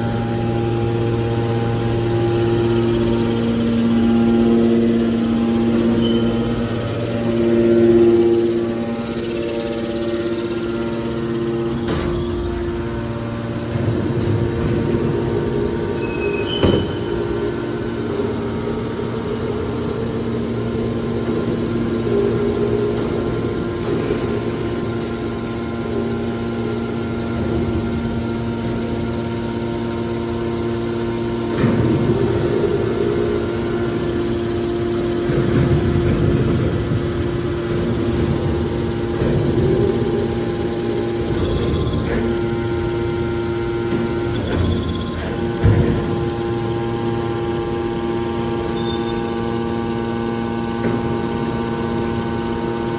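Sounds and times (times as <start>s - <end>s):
hydraulic pump humming: 0.0s - 52.9s.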